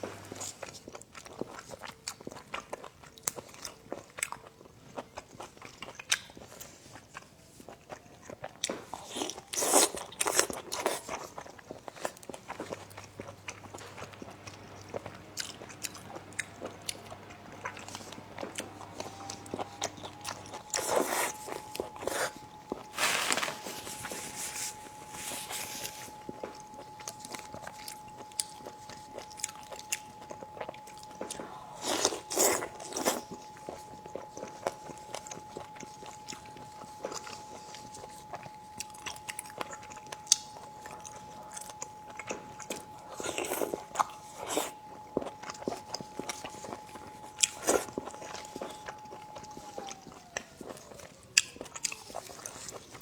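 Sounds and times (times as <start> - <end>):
chewing and biting: 0.0 - 53.0.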